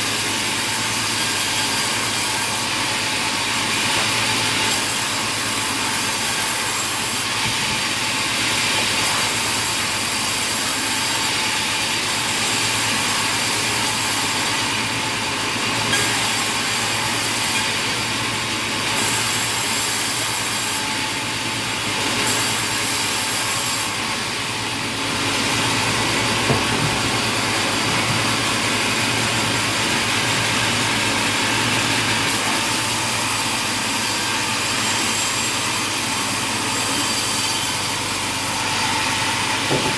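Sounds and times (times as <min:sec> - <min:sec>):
saw hissing through wood: 0:00.0 - 0:39.8
sawmill machinery running: 0:00.0 - 0:39.9.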